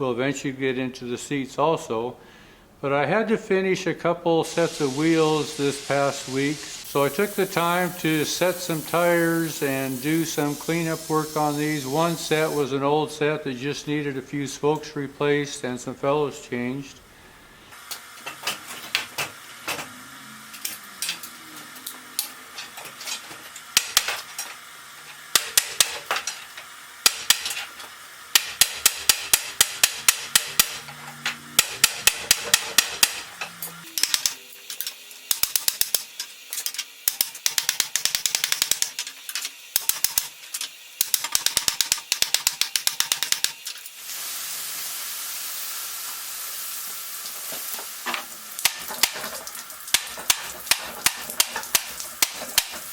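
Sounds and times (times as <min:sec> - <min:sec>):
steady hiss: 0:00.0 - 0:52.9.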